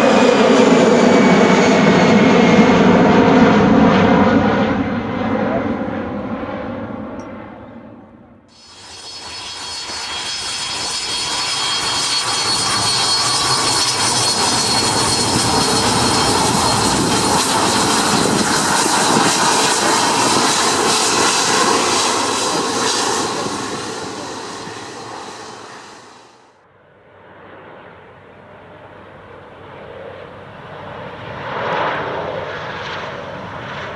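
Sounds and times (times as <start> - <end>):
jet engines passing with whine: 0.0 - 33.9.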